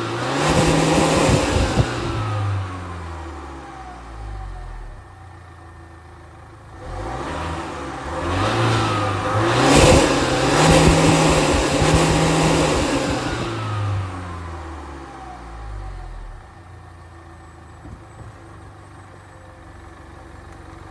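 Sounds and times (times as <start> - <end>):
car engine idling and revving: 0.0 - 20.9.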